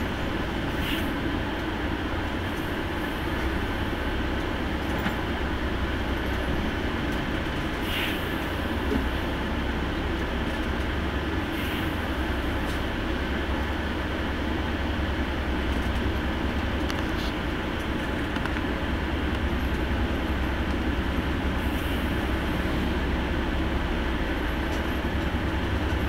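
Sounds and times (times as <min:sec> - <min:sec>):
diesel engine and road noise: 0:00.0 - 0:26.0.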